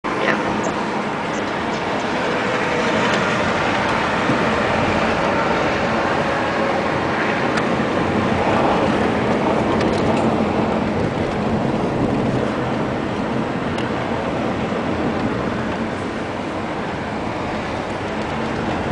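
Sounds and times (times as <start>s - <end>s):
vehicle engine and rolling noise: 0.0s - 18.9s.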